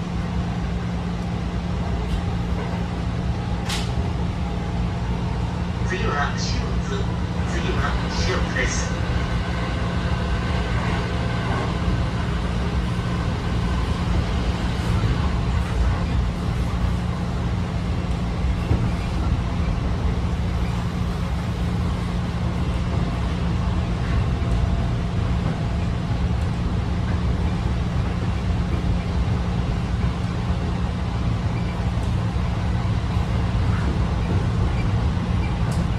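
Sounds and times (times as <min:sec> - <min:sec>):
wheels rumbling on rail: 0:00.0 - 0:35.9.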